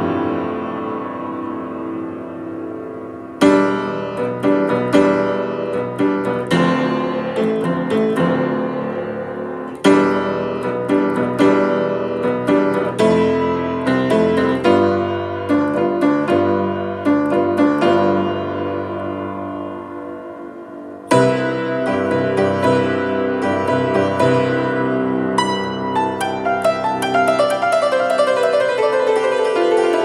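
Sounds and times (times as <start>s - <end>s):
piano playing: 0.0s - 30.0s.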